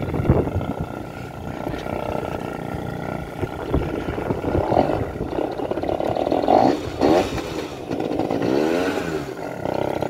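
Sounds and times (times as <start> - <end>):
scooter engine revving: 0.0 - 10.0.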